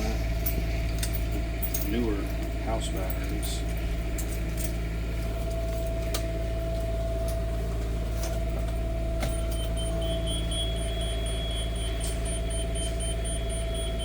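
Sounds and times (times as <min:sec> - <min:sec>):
engine humming with whine: 0:00.0 - 0:14.0.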